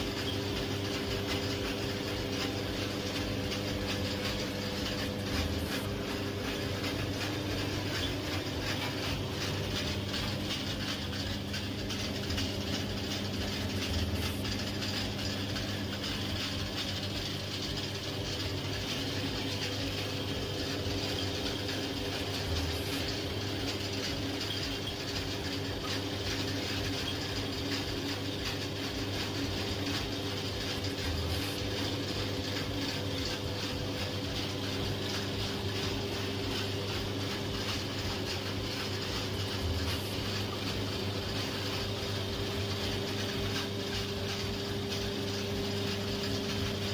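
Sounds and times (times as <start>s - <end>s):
machine electric hum: 0.0s - 46.9s.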